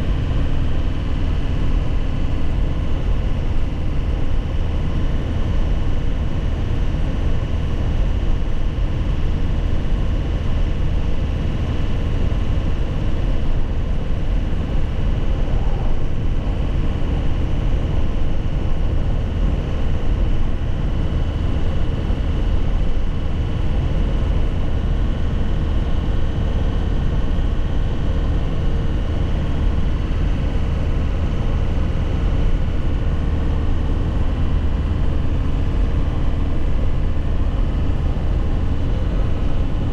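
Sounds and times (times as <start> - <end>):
steady higher hum: 0.0 - 39.9.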